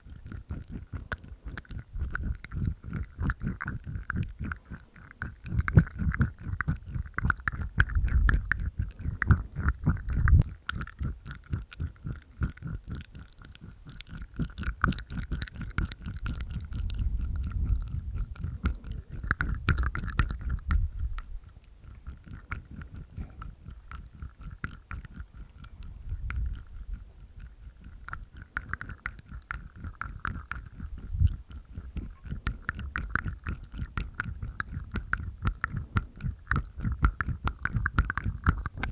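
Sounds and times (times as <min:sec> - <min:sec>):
teeth sounds: 0:00.0 - 0:38.9
wet tongue clicks: 0:00.0 - 0:38.9.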